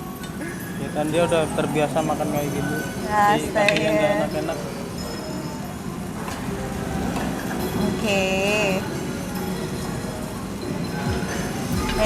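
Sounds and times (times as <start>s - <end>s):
background music: 0.0s - 12.0s
restaurant noise: 0.0s - 12.0s.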